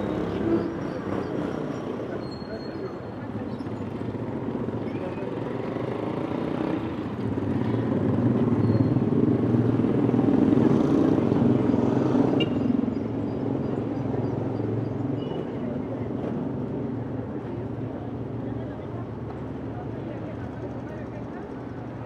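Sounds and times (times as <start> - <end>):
street noise: 0.0 - 22.0.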